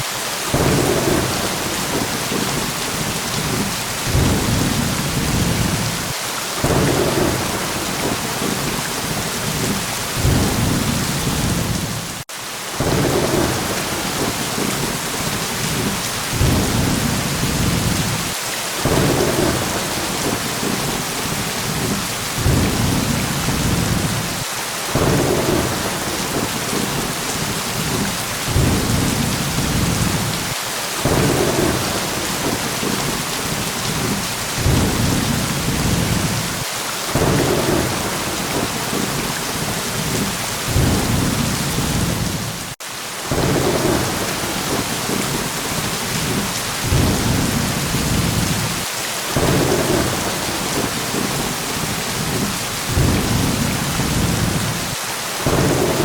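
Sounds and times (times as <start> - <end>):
heavy rain: 0.0 - 56.0
low thunder rumbles: 0.5 - 12.2, 12.8 - 48.8, 49.4 - 56.0.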